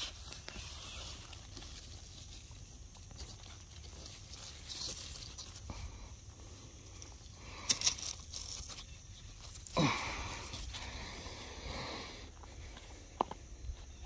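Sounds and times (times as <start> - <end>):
leaves rustling and tearing: 0.0 - 11.7.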